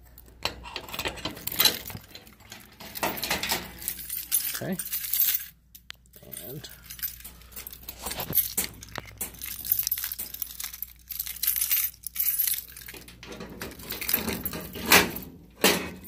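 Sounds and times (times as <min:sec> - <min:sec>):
keys jangling in a lock: 0:00.0 - 0:16.0.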